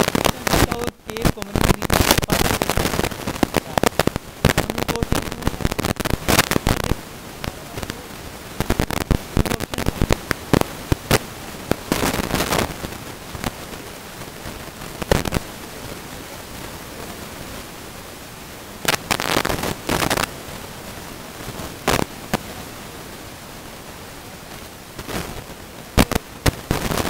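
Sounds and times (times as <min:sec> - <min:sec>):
crackling and sharp pops: 0:00.0 - 0:16.7, 0:18.8 - 0:20.4, 0:21.4 - 0:22.6, 0:24.5 - 0:27.0.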